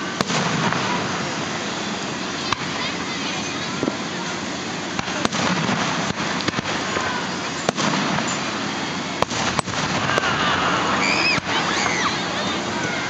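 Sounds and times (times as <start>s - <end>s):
fireworks bursting with sharp bangs: 0.0s - 13.0s
steady wash of noise: 0.0s - 13.0s.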